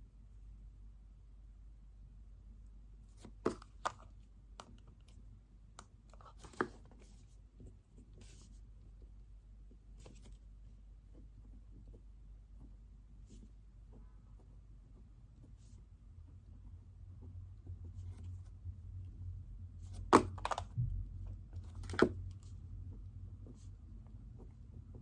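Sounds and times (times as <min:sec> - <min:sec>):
faint room hum: 0:00.0 - 0:25.0.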